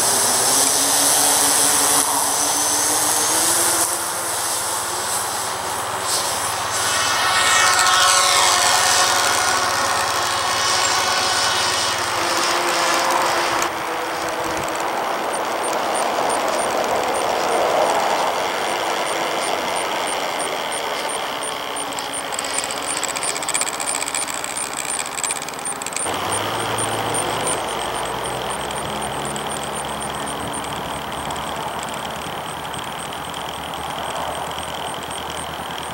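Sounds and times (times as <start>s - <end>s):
model airplane motor whine: 0.0s - 35.9s.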